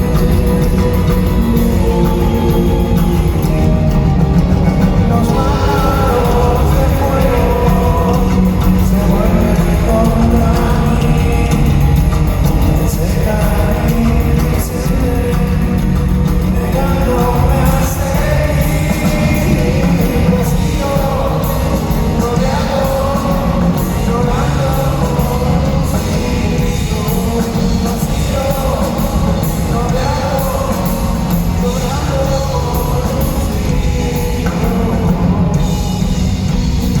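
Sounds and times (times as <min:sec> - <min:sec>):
person singing: 0:00.0 - 0:37.0
rock band playing: 0:00.0 - 0:37.0.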